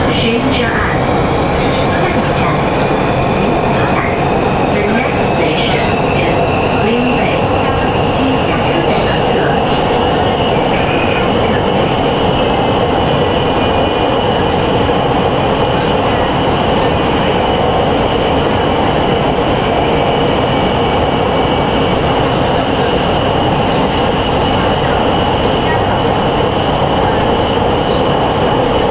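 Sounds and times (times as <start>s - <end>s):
train wheels on rails: 0.0s - 28.9s.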